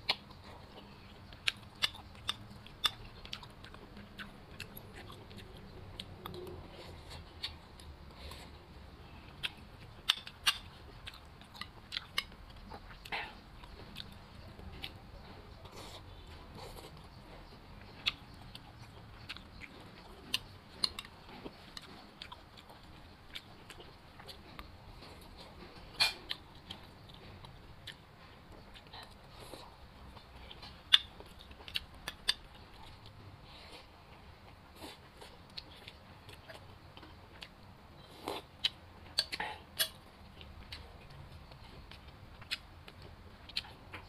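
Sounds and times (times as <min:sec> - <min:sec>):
person chewing: 0:00.0 - 0:44.0.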